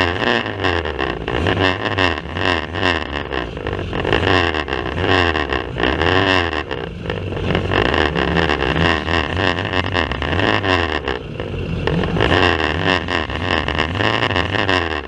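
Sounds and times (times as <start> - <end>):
racing car engines revving: 0.0 - 15.0.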